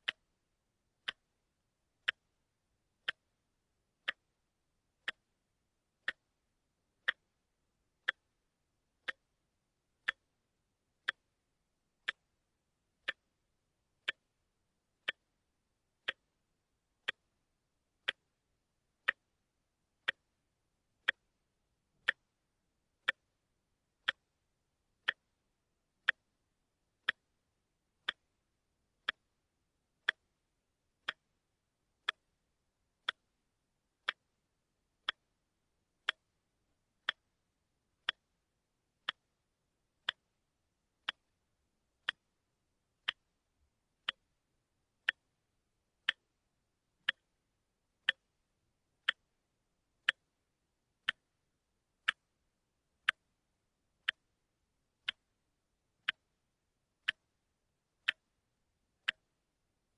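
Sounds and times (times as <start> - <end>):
watch ticking: 0.0 - 0.3, 1.0 - 22.4, 23.0 - 47.4, 48.0 - 55.4, 56.0 - 59.6.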